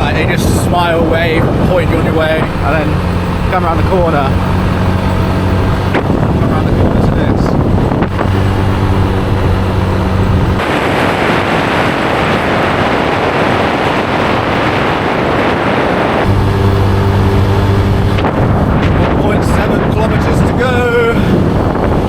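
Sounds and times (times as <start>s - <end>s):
motorbike engine running: 0.0s - 22.0s
rushing noise: 0.0s - 22.0s.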